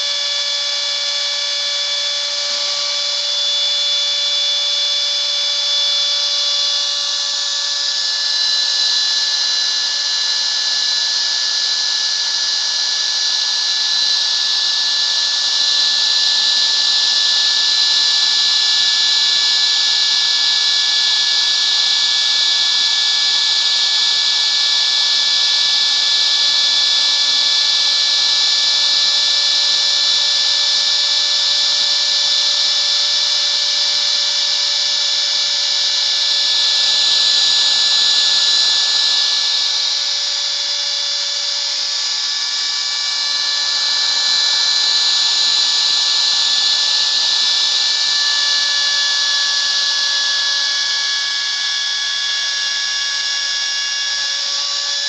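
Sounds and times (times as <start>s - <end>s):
router whining while cutting wood: 0.0s - 55.0s.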